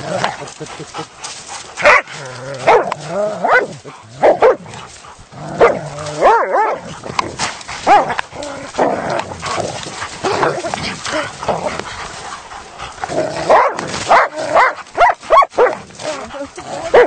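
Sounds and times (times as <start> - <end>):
dogs barking and yelping: 1.7 - 17.0.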